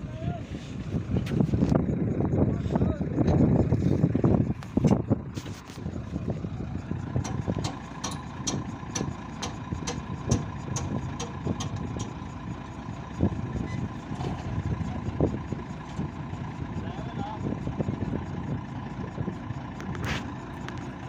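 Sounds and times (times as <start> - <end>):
harvester engine idling: 0.0 - 21.0
regular ticking clatter: 3.1 - 21.0.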